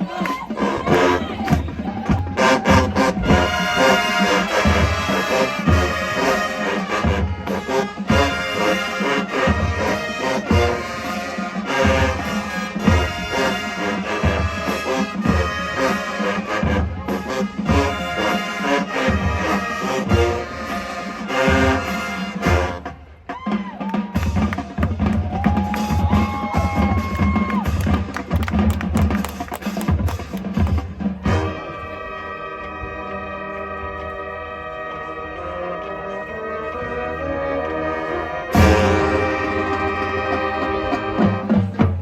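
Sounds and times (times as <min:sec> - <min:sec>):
marching band playing: 0:00.0 - 0:42.0.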